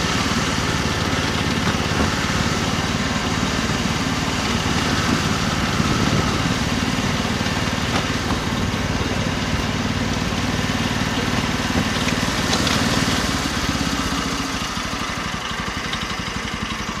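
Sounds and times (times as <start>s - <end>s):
small locomotive engine running: 0.0s - 17.0s.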